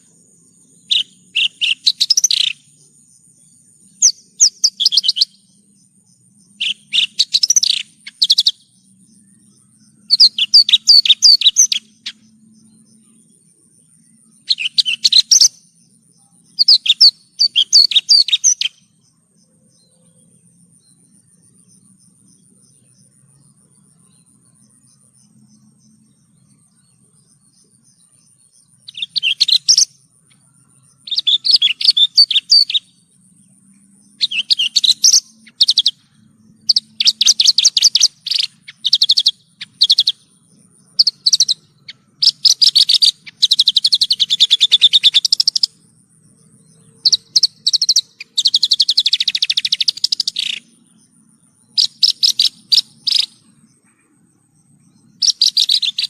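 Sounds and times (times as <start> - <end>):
lark singing chirps and trills: 0.0 - 56.0.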